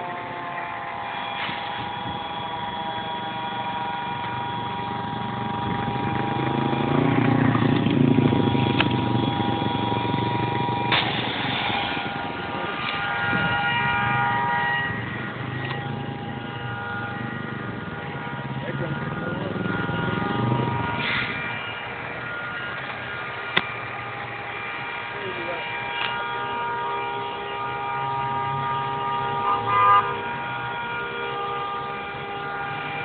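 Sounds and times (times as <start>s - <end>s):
car passing: 0.0s - 33.0s
traffic hum with whining tones: 0.0s - 33.0s.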